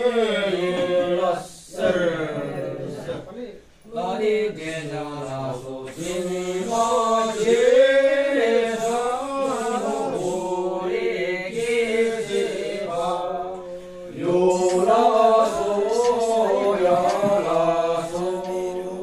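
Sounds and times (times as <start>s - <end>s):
voices chanting together: 0.0s - 3.2s, 3.8s - 19.0s.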